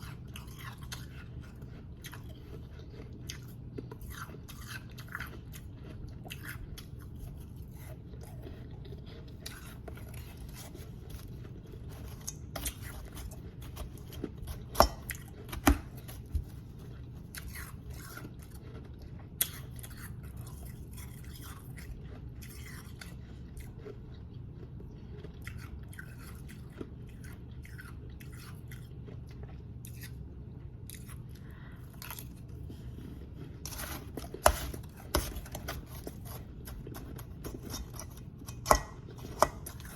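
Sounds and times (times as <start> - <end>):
chewing crunchy ice: 0.0 - 39.9
steady low hum: 0.0 - 39.9.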